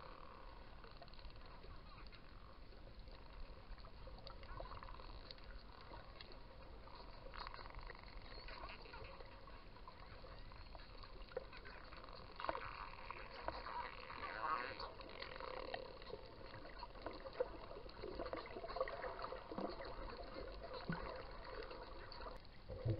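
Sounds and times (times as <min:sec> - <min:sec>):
dolphin clicks and buzzes: 0:00.1 - 0:22.4.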